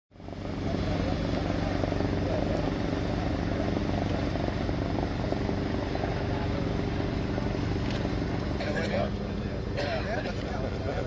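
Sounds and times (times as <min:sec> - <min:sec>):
boat engine droning: 0:00.2 - 0:11.0.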